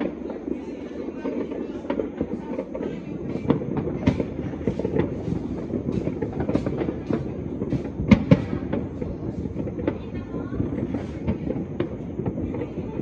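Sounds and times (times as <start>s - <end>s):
distant fireworks crackling: 0.0s - 13.0s
loud fireworks bangs: 0.0s - 13.0s.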